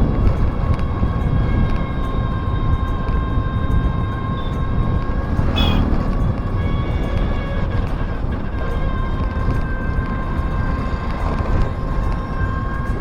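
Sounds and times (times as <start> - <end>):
faint train whine: 0.0 - 13.0
train wheels rumbling on track: 0.0 - 13.0.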